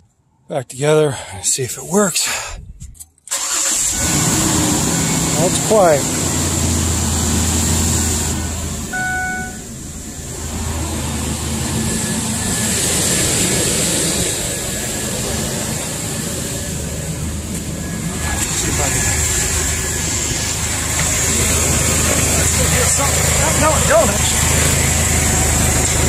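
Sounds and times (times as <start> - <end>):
car engine idling: 3.3 - 26.0.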